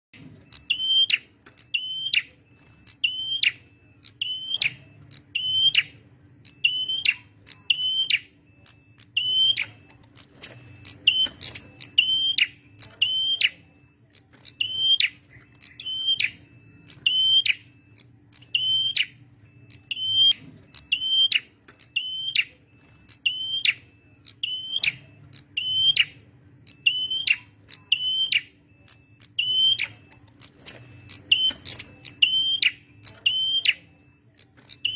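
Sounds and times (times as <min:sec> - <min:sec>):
bird singing sharp high calls: 0:00.4 - 0:34.9.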